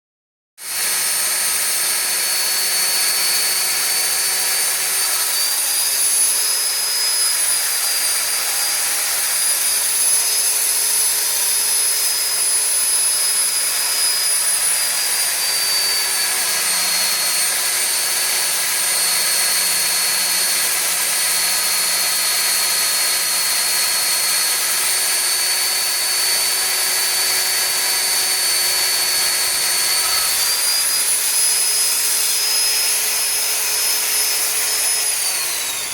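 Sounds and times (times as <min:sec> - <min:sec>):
core drill motor whine: 0:00.6 - 0:35.9
drill bit grinding concrete: 0:00.6 - 0:35.9.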